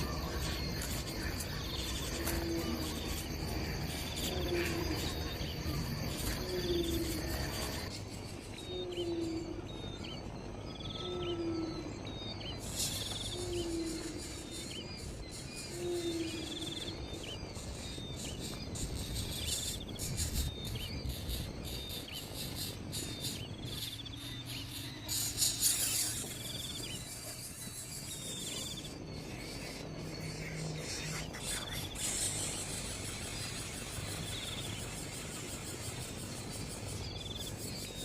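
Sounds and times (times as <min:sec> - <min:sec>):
birds calling: 0:00.0 - 0:38.0
insects chirping: 0:00.0 - 0:38.0.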